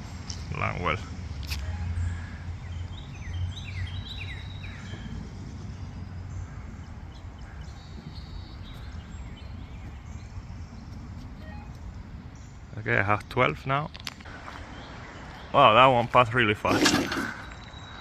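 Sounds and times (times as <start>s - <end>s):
low outdoor rumble: 0.0s - 16.7s
songbird chirping: 0.0s - 18.0s.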